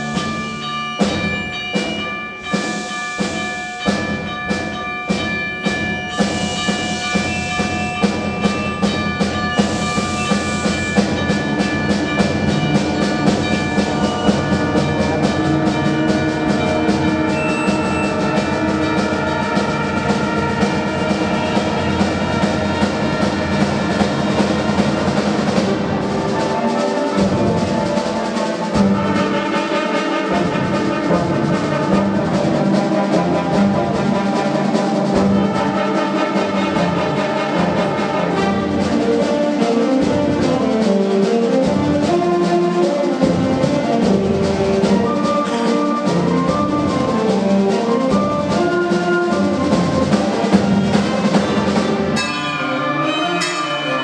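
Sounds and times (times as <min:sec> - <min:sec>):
drum strokes: 0:00.0 - 0:52.8
concert band playing: 0:00.0 - 0:54.0.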